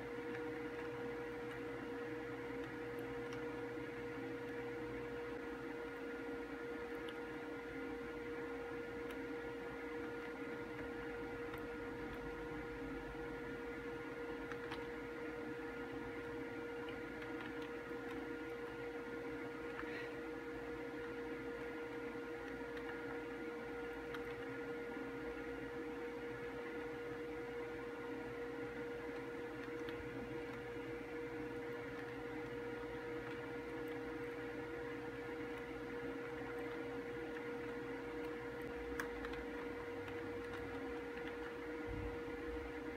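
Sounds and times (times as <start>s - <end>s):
steady hum with held tone: 0.0s - 42.9s.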